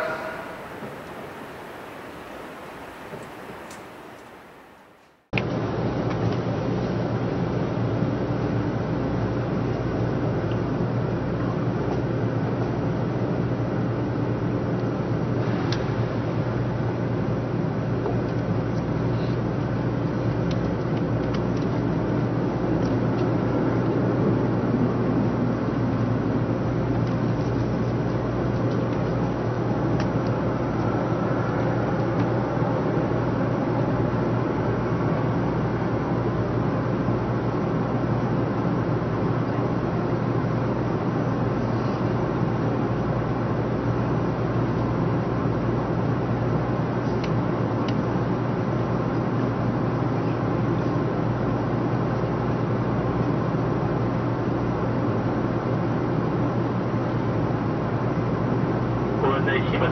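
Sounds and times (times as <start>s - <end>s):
train interior hum and rumble: 0.0s - 59.9s.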